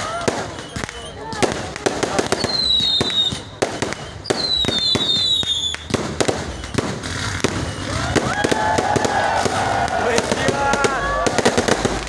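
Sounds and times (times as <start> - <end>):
fireworks bangs and crackles: 0.0 - 12.0
whistling fireworks: 0.0 - 12.0.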